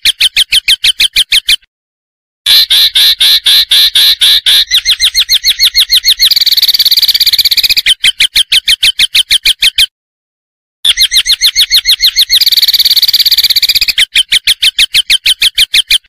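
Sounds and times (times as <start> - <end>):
recorded bird song trilling: 0.0 - 1.6, 2.5 - 9.9, 10.8 - 16.0.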